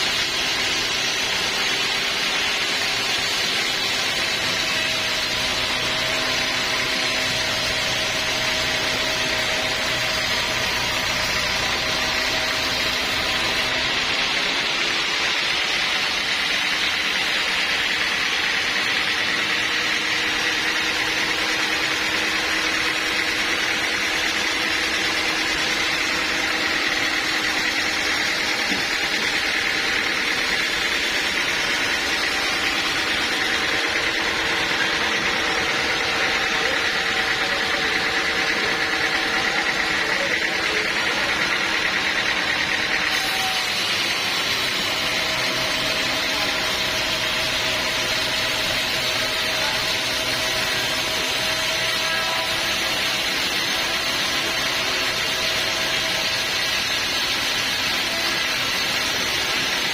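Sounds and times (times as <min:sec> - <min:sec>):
sawmill machinery running: 0:00.0 - 0:59.9
steady machine tones: 0:00.0 - 0:59.9.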